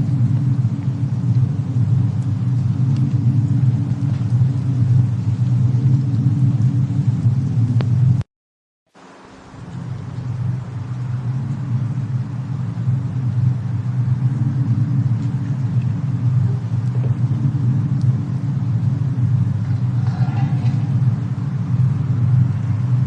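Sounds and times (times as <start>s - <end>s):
fireplace and snowstorm rumble: 0.0s - 8.3s, 8.9s - 23.0s.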